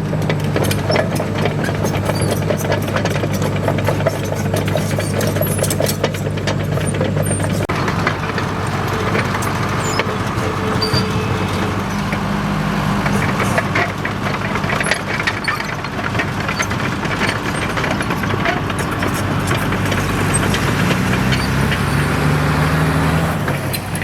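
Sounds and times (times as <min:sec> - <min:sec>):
bulldozer diesel engine running: 0:00.0 - 0:24.0
metallic clicks and clanks: 0:00.1 - 0:12.3, 0:13.0 - 0:21.9.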